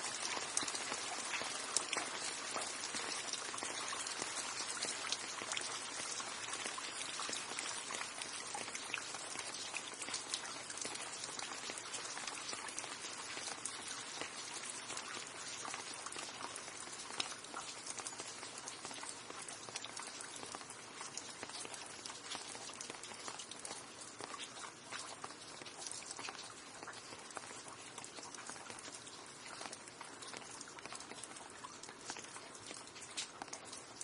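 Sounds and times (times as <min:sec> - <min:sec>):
rain drops ticking on a surface: 0:00.0 - 0:34.0.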